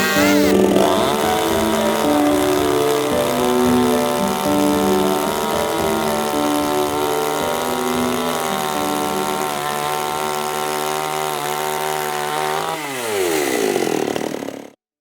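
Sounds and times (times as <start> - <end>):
chainsaw engine idling: 0.0 - 14.8.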